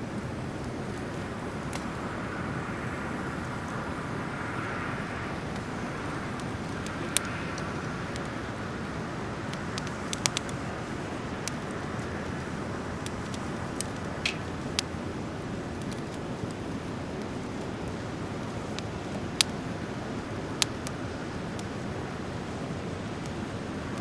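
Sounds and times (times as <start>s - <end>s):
fire popping: 0.0s - 24.0s
steady rushing background noise: 0.0s - 24.0s
wood fire crackling: 0.0s - 24.0s.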